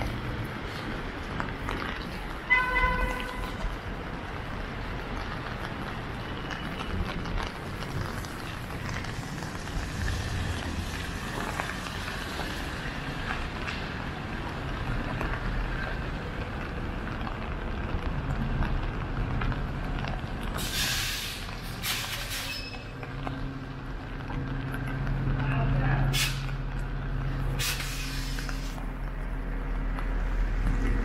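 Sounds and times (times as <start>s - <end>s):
heavy vehicle engine humming: 0.0s - 31.0s
street traffic: 0.0s - 31.0s.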